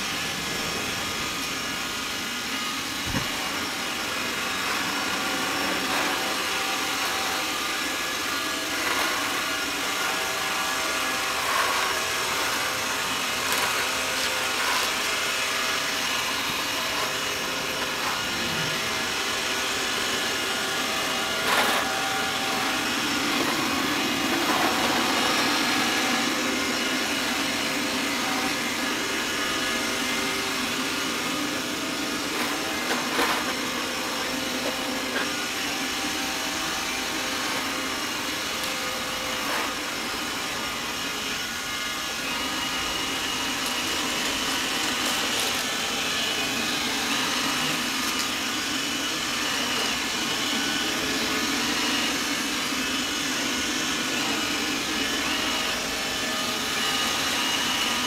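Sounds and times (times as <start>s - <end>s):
robot vacuum humming: 0.0s - 58.0s.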